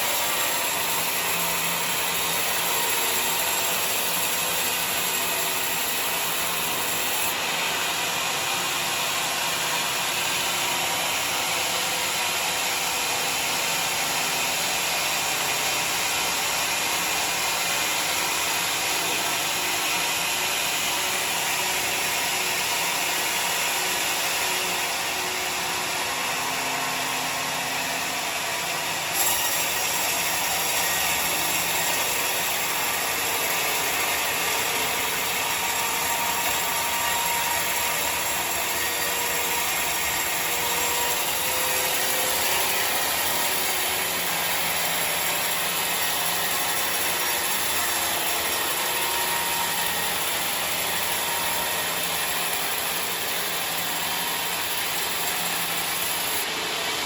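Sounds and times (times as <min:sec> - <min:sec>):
sawmill saw cutting timber: 0:00.0 - 0:57.0.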